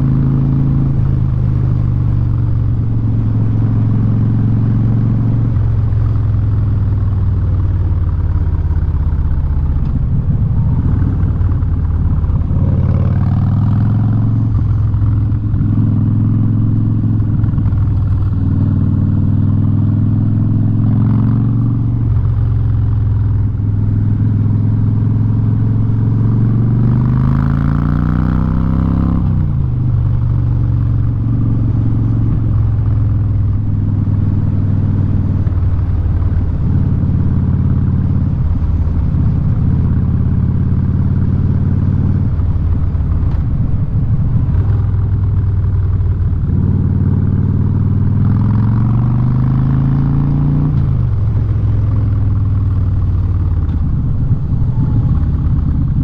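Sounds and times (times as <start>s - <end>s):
motorcycle engine revving while riding: 0.0s - 56.0s.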